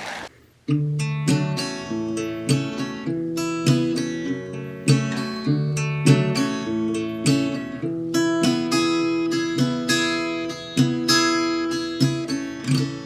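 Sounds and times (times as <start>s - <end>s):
strummed acoustic guitar chords: 0.7s - 13.0s.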